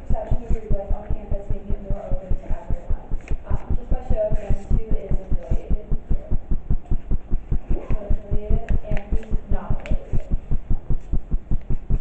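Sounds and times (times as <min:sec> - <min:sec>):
loud low throbbing: 0:00.0 - 0:12.0.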